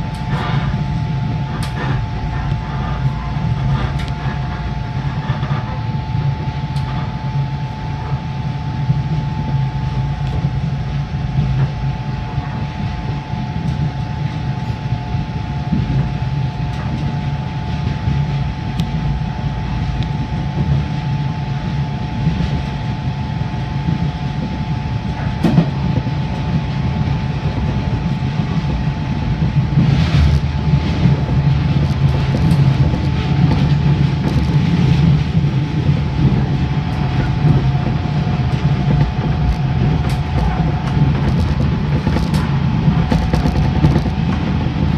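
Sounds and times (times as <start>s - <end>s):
train running rumble and whine: 0.0s - 44.9s.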